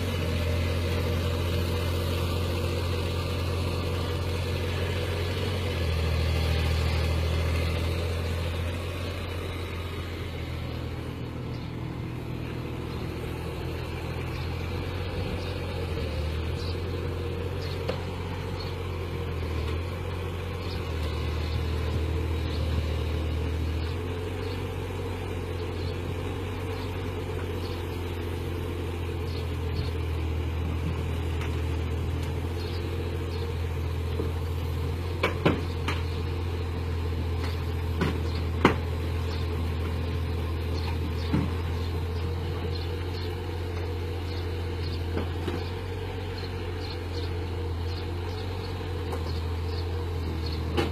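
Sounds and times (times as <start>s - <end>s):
heavy machine engine droning: 0.0s - 50.9s.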